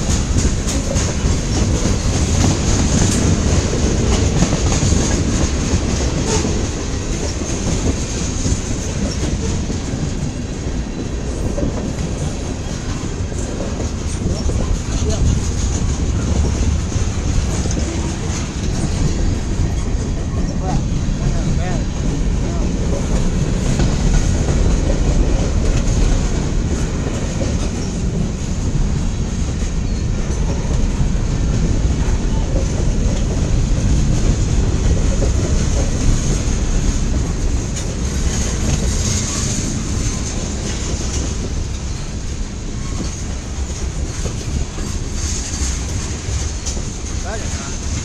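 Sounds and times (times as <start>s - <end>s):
clicking over rail joints: 0.0s - 48.0s
train wheels rumbling on rail: 0.0s - 48.0s.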